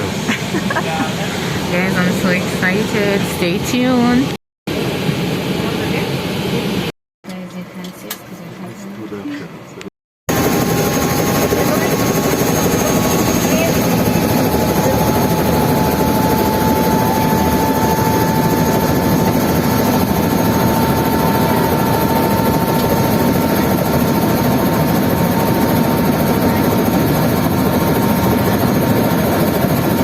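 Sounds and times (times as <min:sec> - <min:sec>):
helicopter running: 0:00.0 - 0:06.8, 0:10.3 - 0:30.0.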